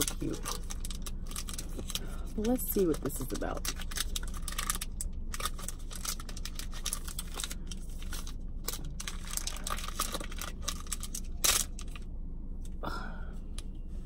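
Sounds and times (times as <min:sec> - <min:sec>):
wrapper tearing and crinkling: 0:00.0 - 0:12.0.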